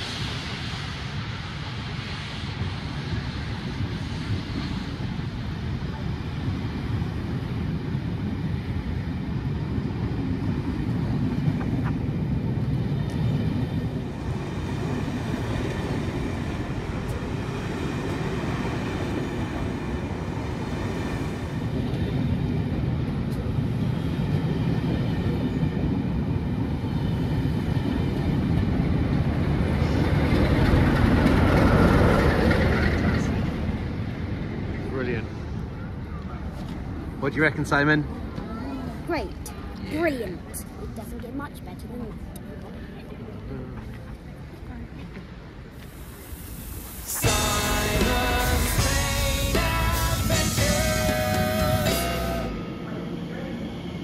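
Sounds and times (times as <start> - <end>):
diesel locomotive passing: 0.0 - 54.0
train coaches rolling past: 0.0 - 54.0.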